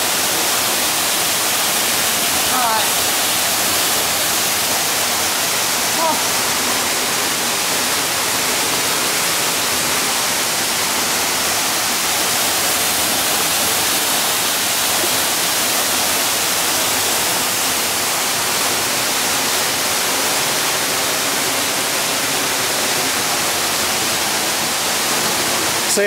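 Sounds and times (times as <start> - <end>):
waterfall pouring into pool: 0.0 - 26.0.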